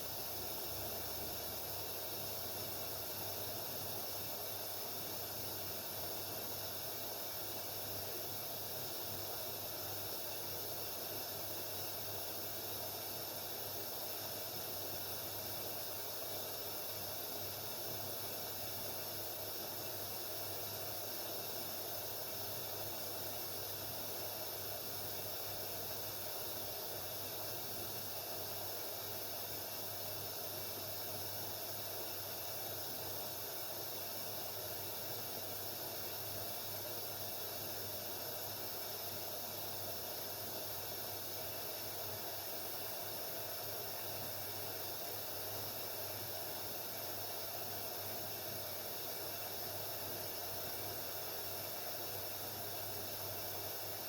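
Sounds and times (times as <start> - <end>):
washing machine hiss and hum: 0.0 - 54.0.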